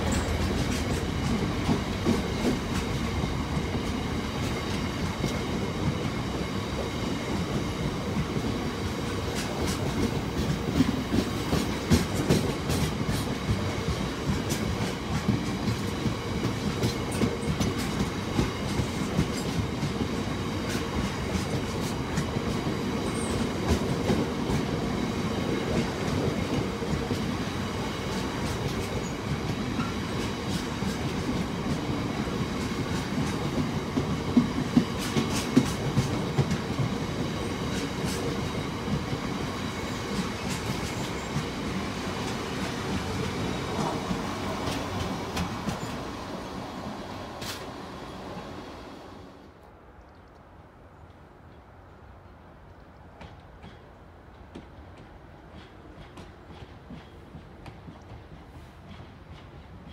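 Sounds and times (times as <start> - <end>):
freight train rumbling past: 0.0 - 49.6.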